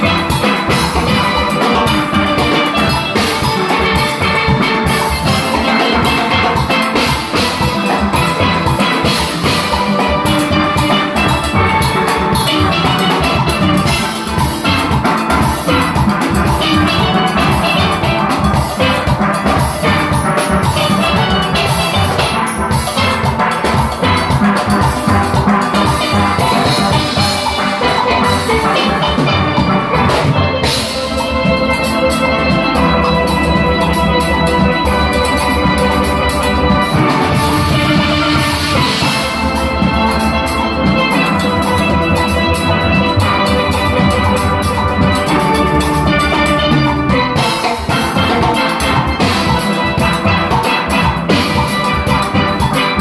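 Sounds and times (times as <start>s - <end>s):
drum kit beat: 0.0s - 53.0s
steel pans playing melody: 0.0s - 53.0s.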